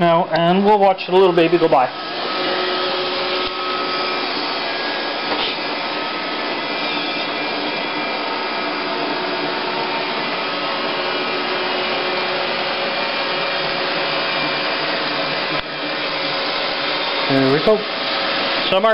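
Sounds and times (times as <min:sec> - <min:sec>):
robot vacuum running on carpet: 0:00.6 - 0:18.9.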